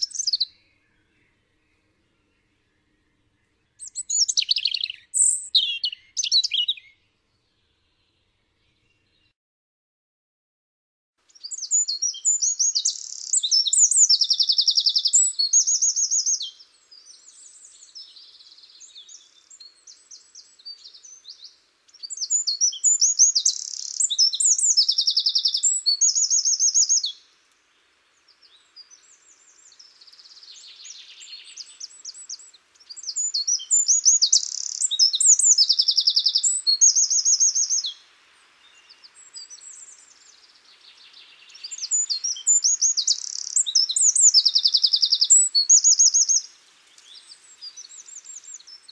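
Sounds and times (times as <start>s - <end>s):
songbird singing trills: 0.0s - 9.3s, 11.3s - 48.9s
faint bird chirps: 0.0s - 9.4s, 11.3s - 48.9s.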